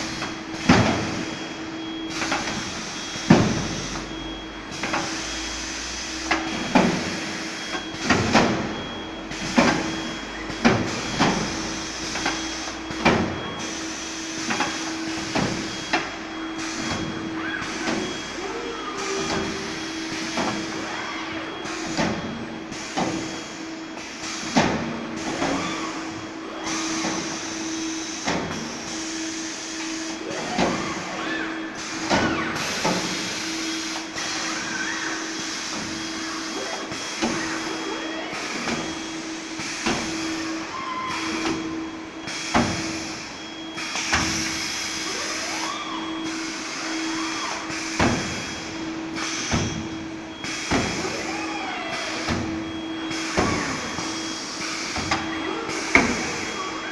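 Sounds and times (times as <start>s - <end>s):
robot arm whine: 0.0s - 24.4s, 25.2s - 56.9s
machine hum: 0.0s - 56.9s.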